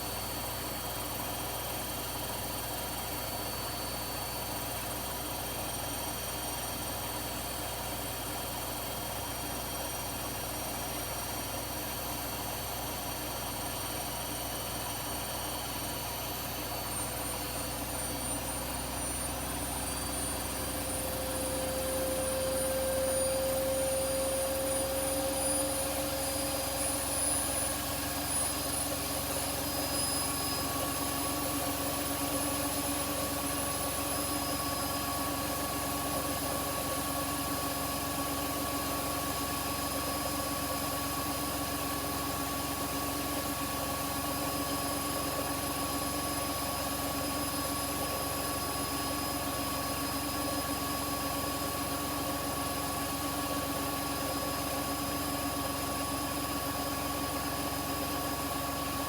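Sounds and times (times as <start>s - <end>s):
washing machine spinning whine: 0.0s - 59.0s.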